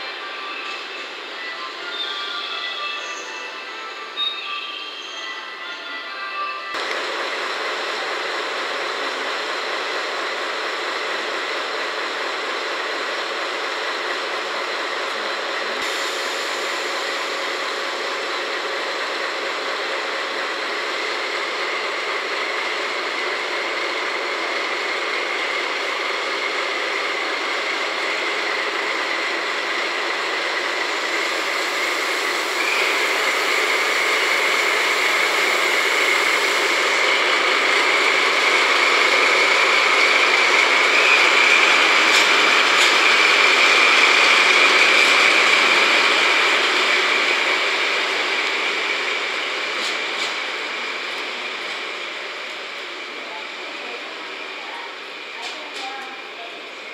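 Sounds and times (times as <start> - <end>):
diesel locomotive idling: 6.7 - 56.9.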